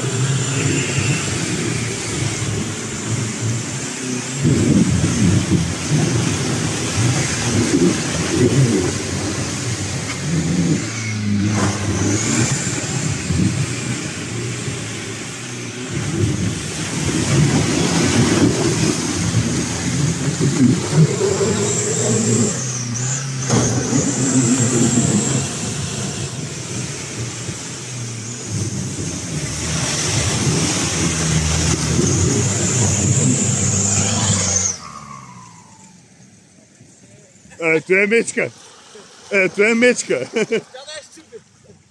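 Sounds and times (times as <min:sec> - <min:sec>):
diesel engine revving hard: 0:00.0 - 0:36.1.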